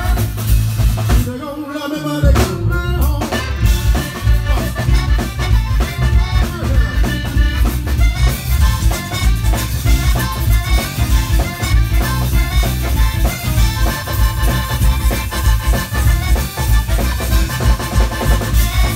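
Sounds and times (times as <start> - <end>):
accordion: 0.0 - 18.9
bass guitar: 0.0 - 18.9
drum kit: 0.0 - 18.9
electric guitar: 0.0 - 18.9.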